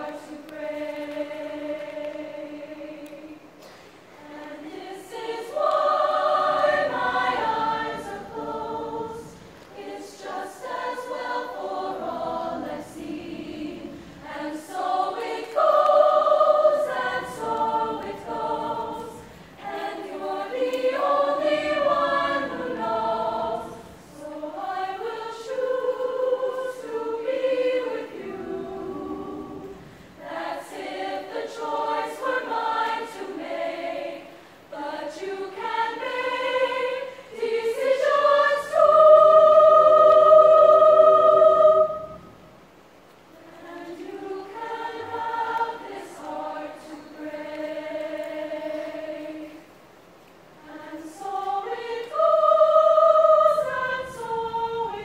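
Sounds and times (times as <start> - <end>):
women's choir singing: 0.0 - 55.0.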